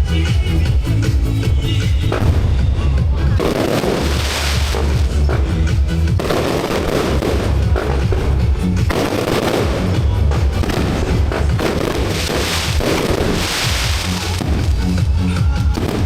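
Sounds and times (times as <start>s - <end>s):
music playing: 0.0s - 16.0s
fireworks booming and crackling: 1.8s - 16.0s.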